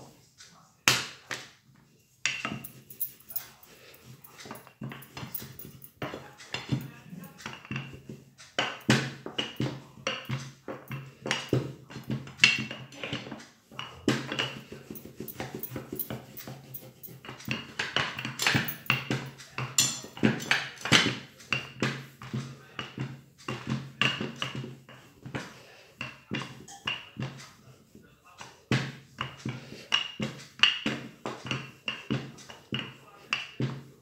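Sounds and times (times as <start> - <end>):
rolling pin rolling dough: 4.0 - 34.0.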